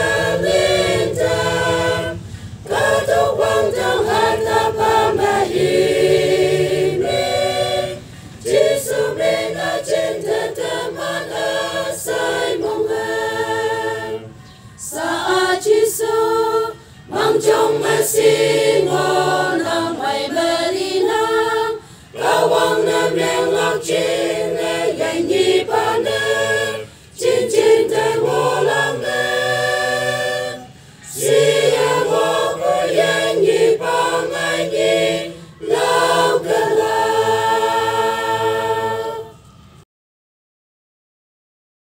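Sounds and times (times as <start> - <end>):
choir singing a hymn unaccompanied: 0.0 - 39.8.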